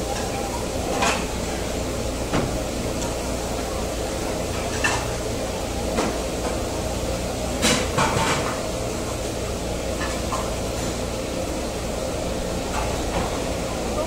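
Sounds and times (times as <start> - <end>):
restaurant room hum: 0.0 - 14.0.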